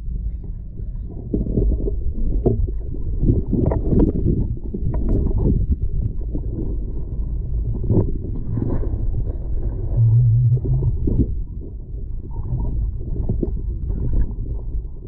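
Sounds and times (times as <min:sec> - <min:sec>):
muffled underwater rumble: 0:00.0 - 0:15.0.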